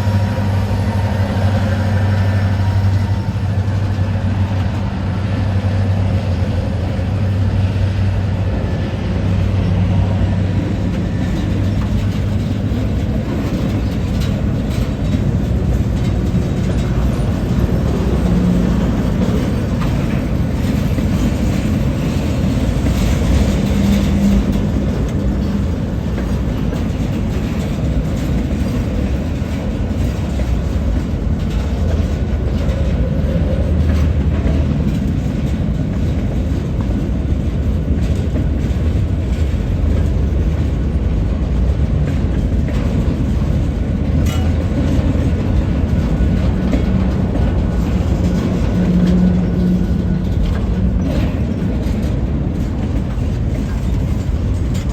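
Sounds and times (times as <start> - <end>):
diesel locomotive engine rumbling: 0.0 - 54.9.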